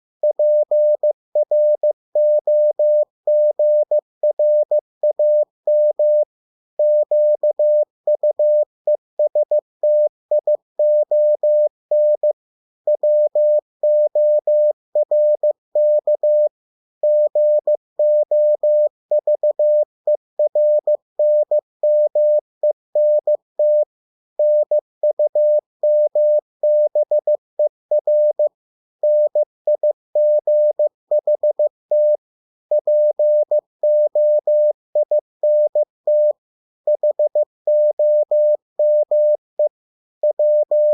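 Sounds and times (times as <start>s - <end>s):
morse code beeps: 0.2s - 8.6s, 9.2s - 12.3s, 12.9s - 19.8s, 20.4s - 22.4s, 23.0s - 40.9s.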